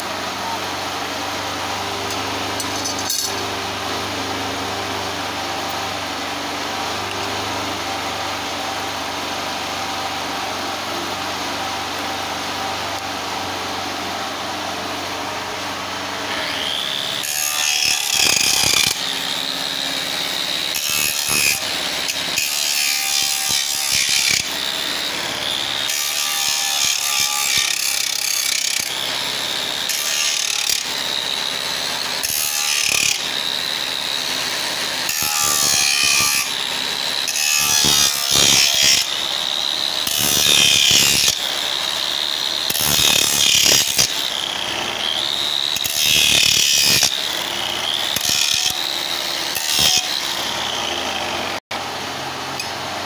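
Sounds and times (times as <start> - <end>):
angle grinder sanding wood: 0.0 - 53.0.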